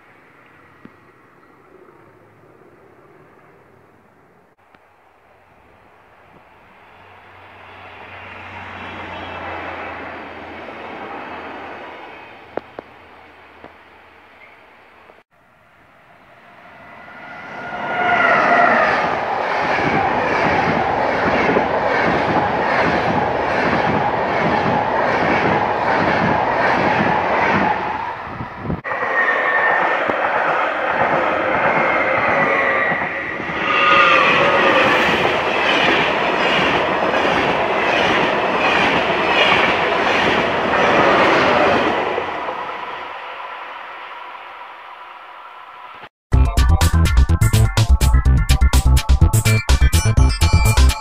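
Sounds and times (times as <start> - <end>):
train passing at speed: 0.0 - 46.1.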